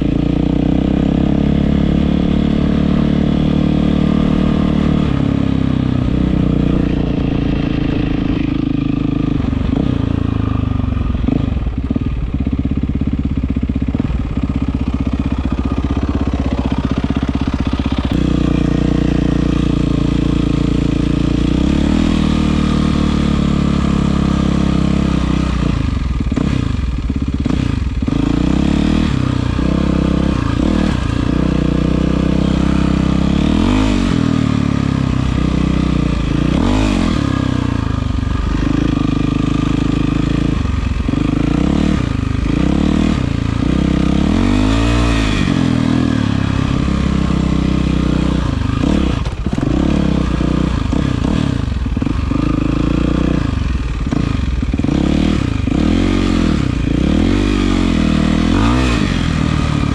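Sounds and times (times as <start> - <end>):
dirt bike engine revving: 0.0 - 12.6, 13.4 - 59.9.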